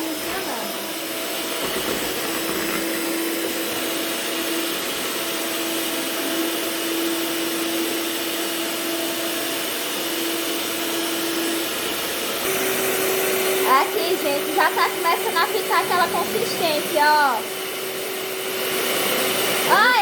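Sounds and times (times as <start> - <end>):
electric mixer motor whining: 0.0 - 20.0.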